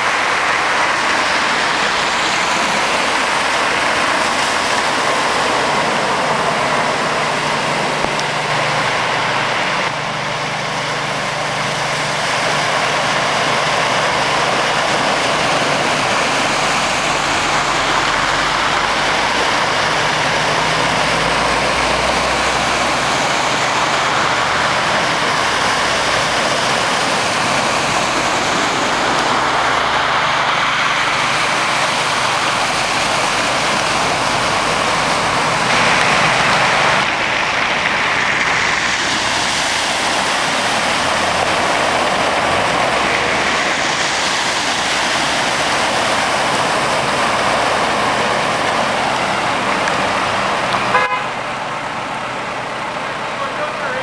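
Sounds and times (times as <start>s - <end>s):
floodwater rushing: 0.0s - 54.0s
low engine hum: 0.0s - 54.0s.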